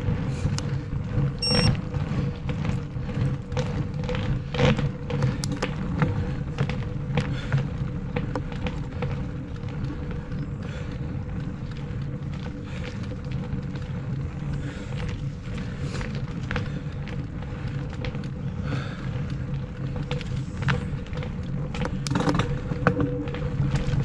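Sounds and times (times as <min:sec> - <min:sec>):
bike clicks and rattles: 0:00.0 - 0:24.0
bike tire humming on concrete: 0:00.0 - 0:24.0
wind rumble on microphone: 0:00.0 - 0:24.0.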